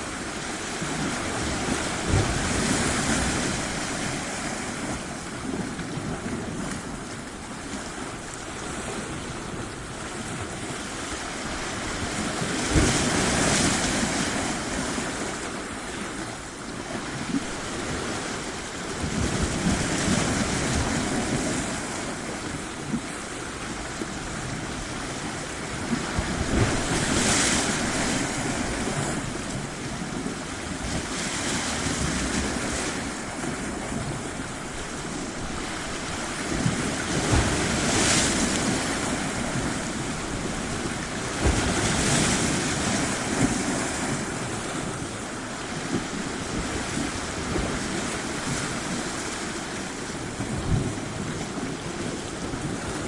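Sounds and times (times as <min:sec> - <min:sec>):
sea waves washing onto beach: 0:00.0 - 0:53.0.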